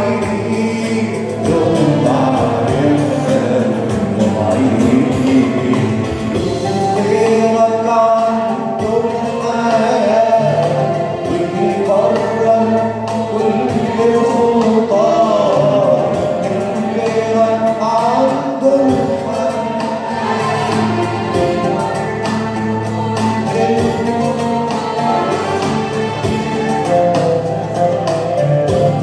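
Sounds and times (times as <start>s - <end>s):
man singing a hymn: 0.0s - 28.1s
musical accompaniment: 0.0s - 29.0s.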